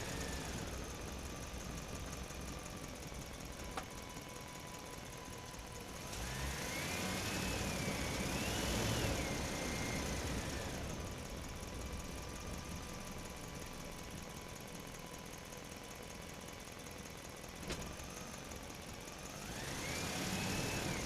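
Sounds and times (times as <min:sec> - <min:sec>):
cartoon construction vehicle engine: 0:00.0 - 0:21.0.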